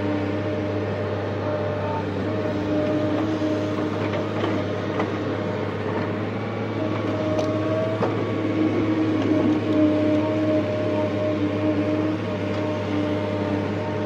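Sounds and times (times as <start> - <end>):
diesel engine hum: 0.0 - 14.0
hydraulic whine: 0.0 - 14.0.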